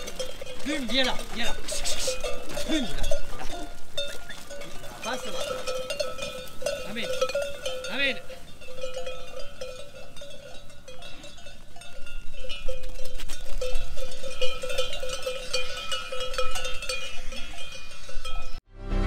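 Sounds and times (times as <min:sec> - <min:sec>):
sheep bells clanking: 0:00.0 - 0:18.7.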